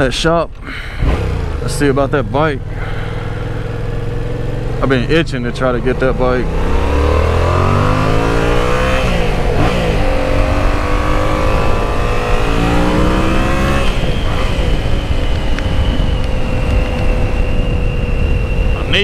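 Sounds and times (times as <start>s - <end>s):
motorcycle engine accelerating: 0.6s - 19.0s.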